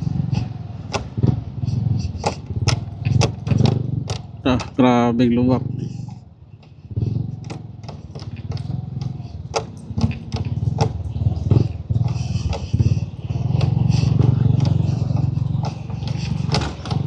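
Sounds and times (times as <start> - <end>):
knocks and rattles on rough road: 0.0 - 17.0
motorcycle engine running: 0.0 - 17.0.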